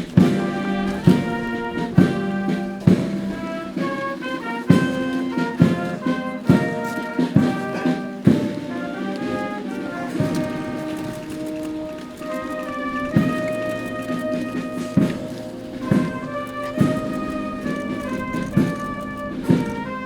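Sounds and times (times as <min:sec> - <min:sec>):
heavy drum beat: 0:00.0 - 0:20.0
sustained brass chords: 0:00.0 - 0:20.0.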